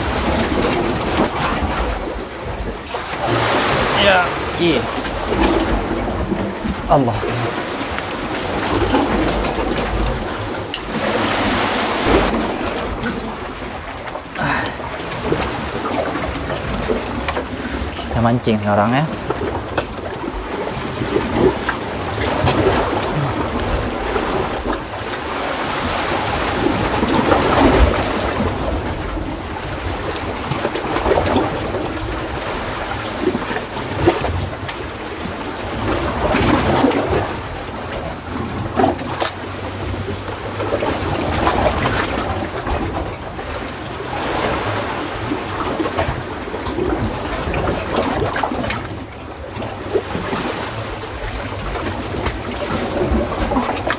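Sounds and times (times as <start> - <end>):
seawater surging through rocks: 0.0 - 53.9.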